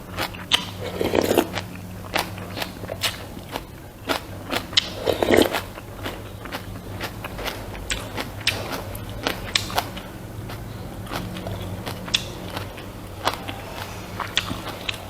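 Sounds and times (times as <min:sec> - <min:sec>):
low hum: 0:00.0 - 0:15.0
person chewing food: 0:00.0 - 0:15.0
wet mouth clicks: 0:00.4 - 0:15.0.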